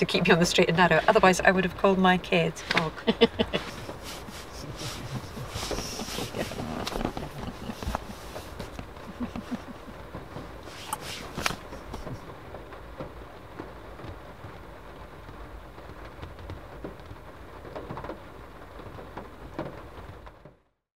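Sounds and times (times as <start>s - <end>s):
rain on car roof: 0.0s - 20.7s.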